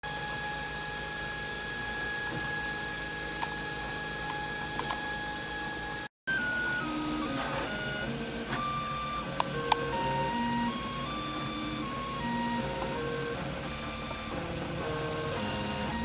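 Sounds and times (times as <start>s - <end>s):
stepper motors whining: 0.2s - 16.0s.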